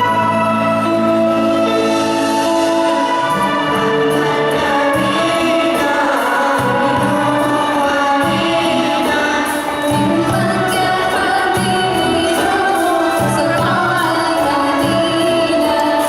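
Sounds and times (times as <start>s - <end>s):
live band music: 0.0s - 16.0s
voices singing: 0.0s - 16.0s.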